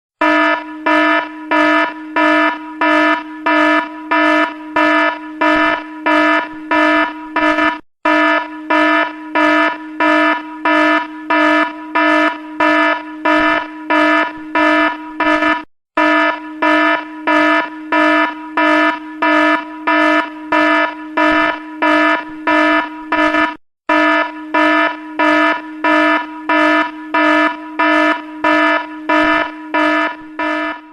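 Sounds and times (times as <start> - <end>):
pulsing electronic alarm: 0.2 - 30.9.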